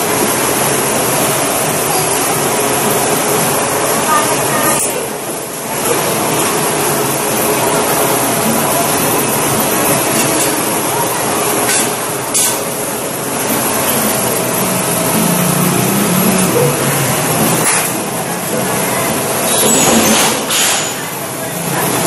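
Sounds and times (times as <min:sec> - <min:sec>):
industrial machinery noise: 0:00.0 - 0:22.0.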